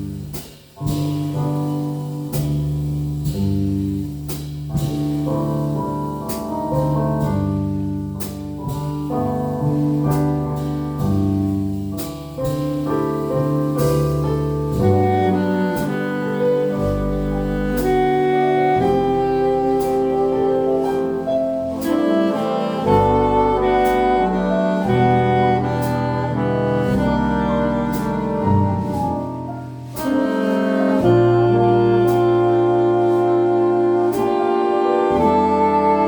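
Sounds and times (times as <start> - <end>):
jazz band playing slow tune: 0.0 - 36.0.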